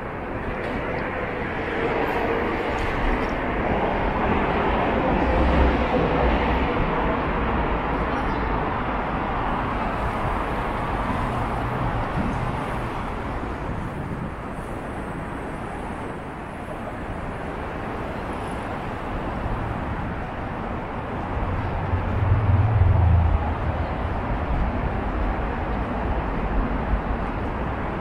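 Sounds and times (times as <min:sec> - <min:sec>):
road traffic rushing: 0:00.0 - 0:28.0.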